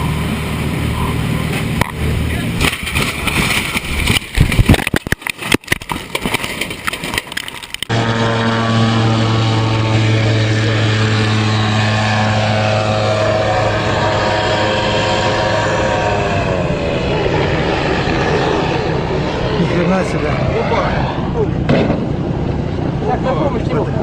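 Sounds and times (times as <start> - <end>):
aircraft engine drone: 0.0 - 24.0
buffeting and rumbling: 0.0 - 24.0.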